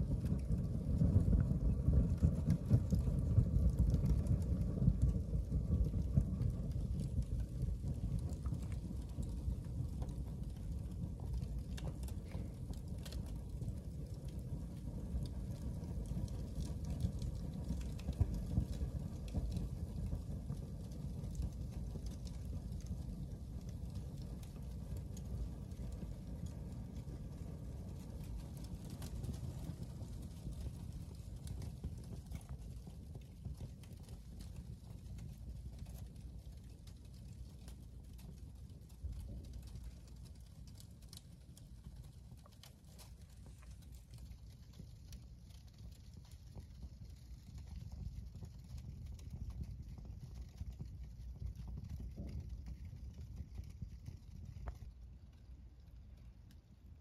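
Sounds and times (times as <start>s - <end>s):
fire crackling and popping: 0.0s - 57.0s
paper burning with crackles: 0.0s - 57.0s.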